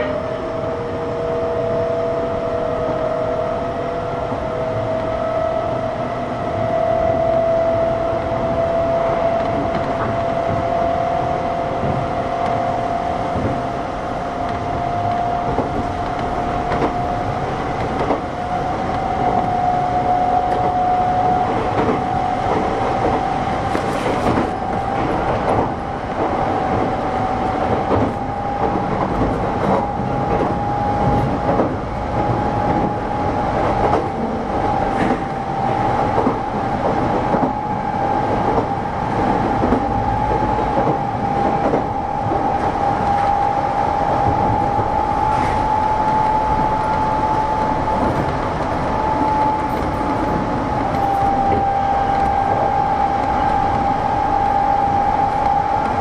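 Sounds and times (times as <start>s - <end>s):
electric train motor whine: 0.0s - 56.0s
wheels rumbling on rail: 0.0s - 56.0s
rail-joint clicks: 8.5s - 56.0s.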